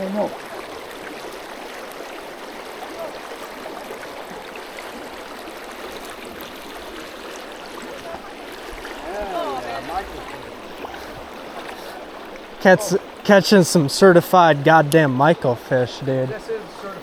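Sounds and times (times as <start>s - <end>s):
creek water over rocks: 0.0s - 17.0s.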